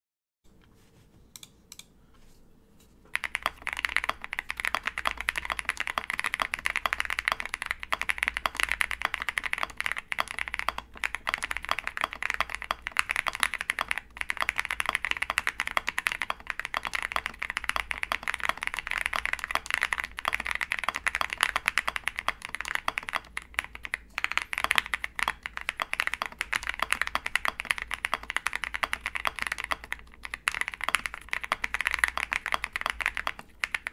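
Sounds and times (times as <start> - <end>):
fast typing on mechanical keyboard: 3.1 - 33.9.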